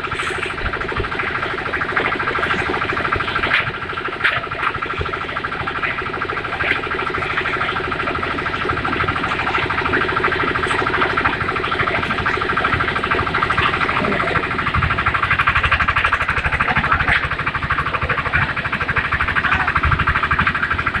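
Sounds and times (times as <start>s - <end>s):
concrete mixer engine running: 0.0s - 21.0s.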